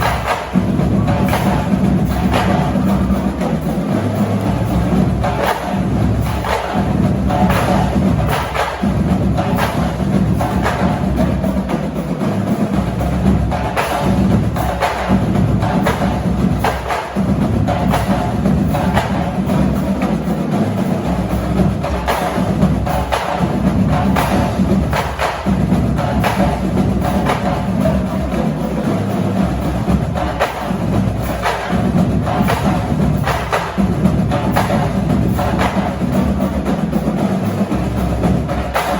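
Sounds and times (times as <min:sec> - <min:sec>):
bass drum notes: 0:00.0 - 0:38.9
snare drum strokes: 0:00.0 - 0:38.9.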